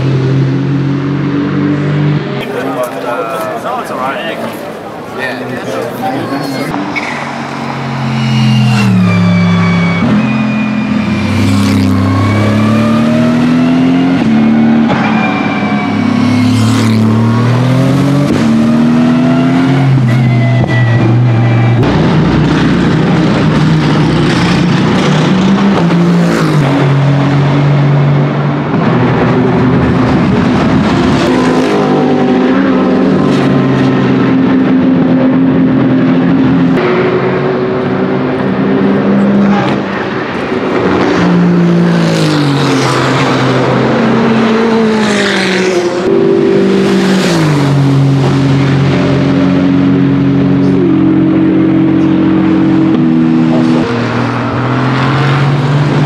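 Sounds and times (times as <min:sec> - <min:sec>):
racing car engine: 0:00.0 - 0:56.0.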